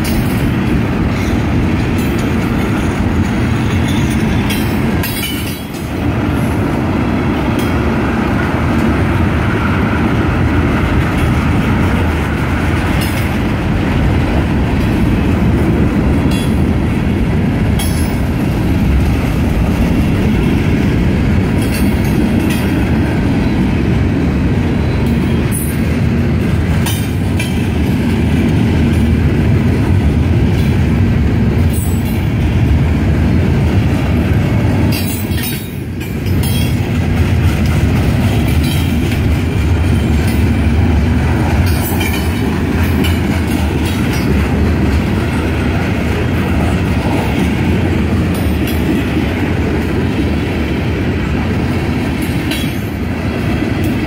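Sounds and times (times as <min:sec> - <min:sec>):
wheels clicking over rail joints: 0:00.0 - 0:09.3, 0:10.0 - 0:23.3, 0:25.0 - 0:32.8, 0:33.6 - 0:54.0
freight train wheels rumbling: 0:00.0 - 0:54.0.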